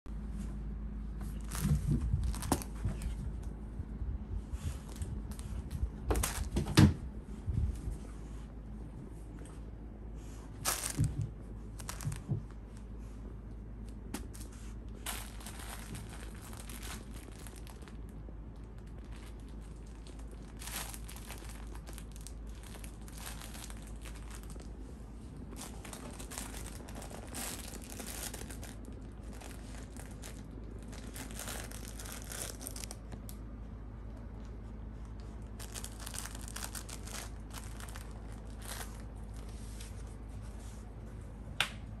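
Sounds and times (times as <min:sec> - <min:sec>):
plush toy rustling and crinkling: 0:00.2 - 0:41.6.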